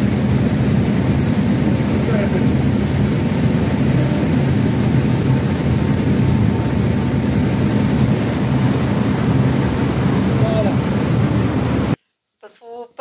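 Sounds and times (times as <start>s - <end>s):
boat engine drone: 0.0s - 12.0s
propeller wake rushing: 0.0s - 12.0s.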